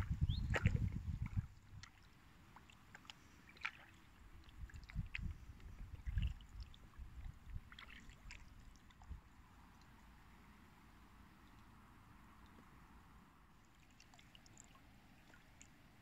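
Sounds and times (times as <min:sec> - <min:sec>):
paddle water drips: 0:00.0 - 0:16.0.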